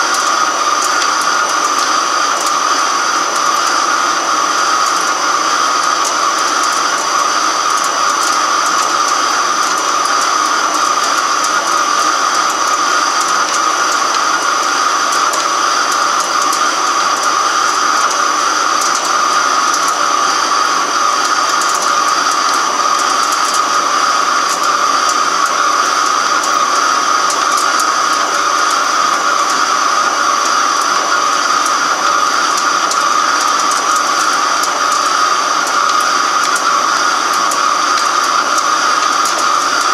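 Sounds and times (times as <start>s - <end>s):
lathe cutting metal with whine: 0.0s - 39.9s.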